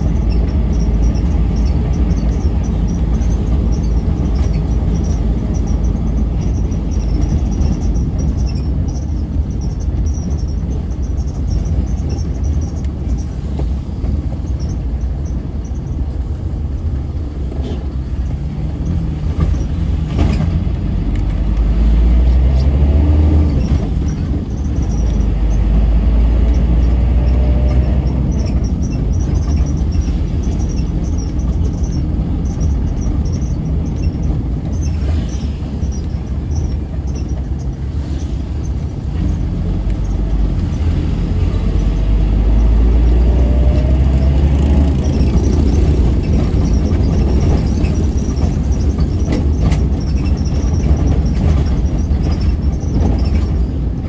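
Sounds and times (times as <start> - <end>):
vehicle driving on rough wet road: 0.0 - 54.0.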